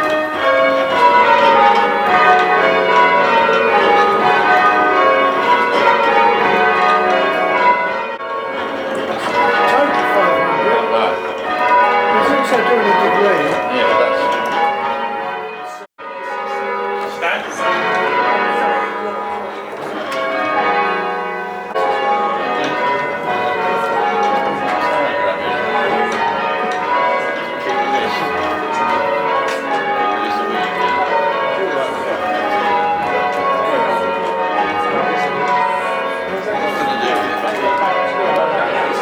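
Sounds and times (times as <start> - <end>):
church bells change ringing: 0.0 - 39.0.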